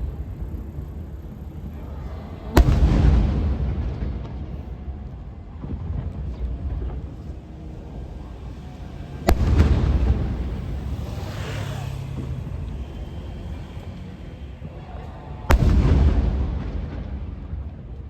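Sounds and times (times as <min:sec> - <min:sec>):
low rumble: 0:00.0 - 0:18.0
fireworks bursting: 0:02.4 - 0:14.8, 0:15.4 - 0:17.8.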